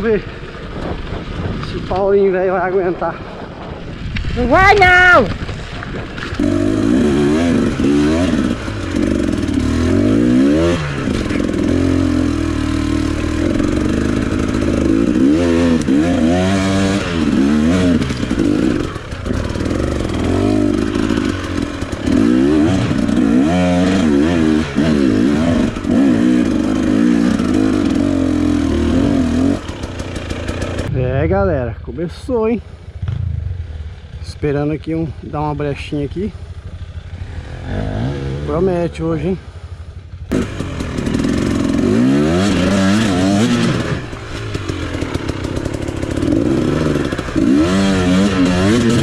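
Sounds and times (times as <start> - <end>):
bike rattling: 0.0 - 49.0
dirt bike engine revving: 6.0 - 31.7, 32.6 - 34.8, 35.4 - 49.0.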